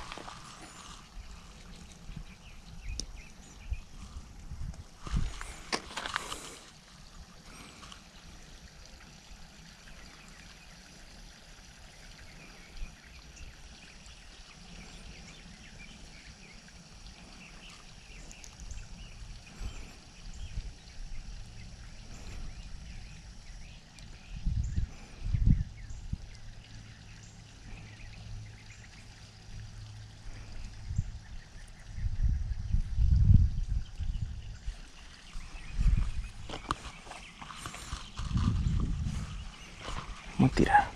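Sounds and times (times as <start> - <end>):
wind rumble on microphone: 0.0 - 7.7, 12.2 - 40.9.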